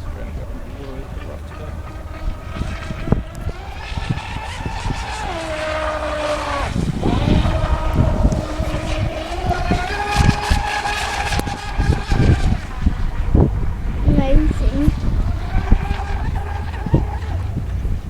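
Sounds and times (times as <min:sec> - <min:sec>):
low rumble: 0:00.0 - 0:18.0
speedboat electric motor whining: 0:00.0 - 0:18.0.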